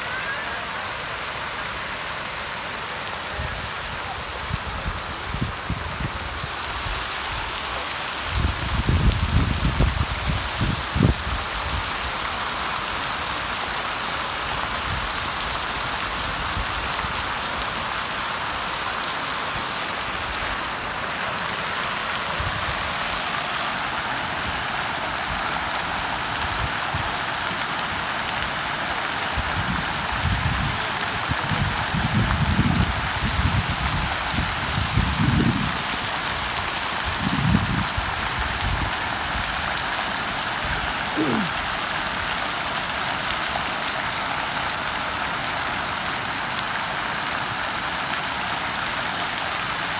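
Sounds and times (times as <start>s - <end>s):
fountain water splashing: 0.0s - 49.9s.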